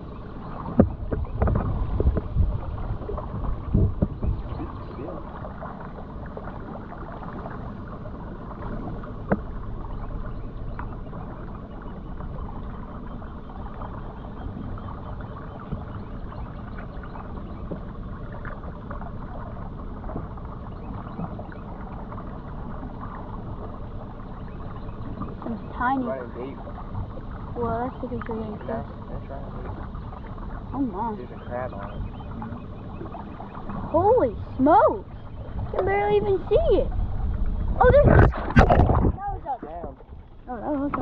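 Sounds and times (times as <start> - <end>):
heavy low thumps on boat: 0.0 - 23.8, 24.4 - 41.0.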